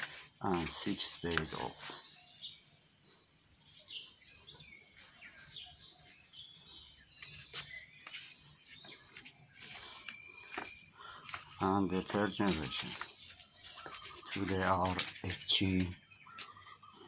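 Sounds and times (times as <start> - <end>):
small birds chirping faintly: 0.0 - 17.0.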